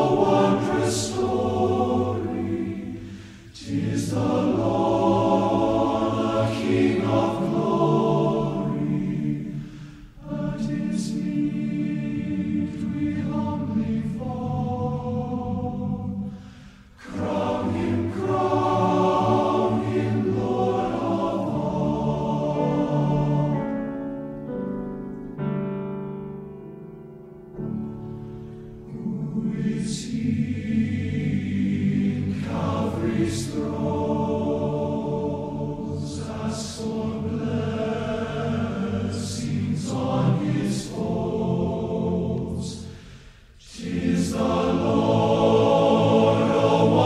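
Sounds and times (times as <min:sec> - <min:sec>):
choir singing sacred piece: 0:00.0 - 0:24.6, 0:27.7 - 0:47.0.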